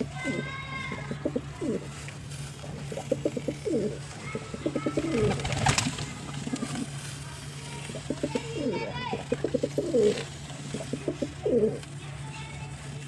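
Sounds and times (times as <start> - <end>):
pigeon cooing: 0.0 - 7.0, 7.8 - 12.0.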